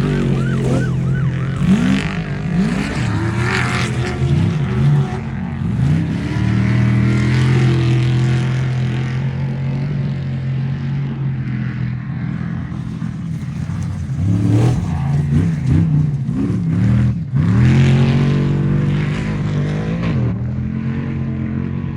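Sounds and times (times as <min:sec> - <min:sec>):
truck engines revving hard: 0:00.0 - 0:21.9.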